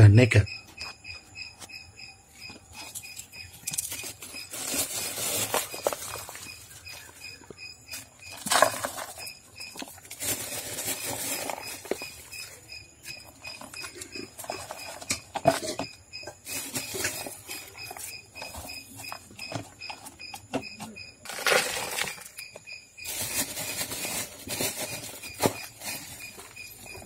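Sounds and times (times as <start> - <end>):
soil pattering into pots: 2.5 - 20.6, 21.2 - 27.0.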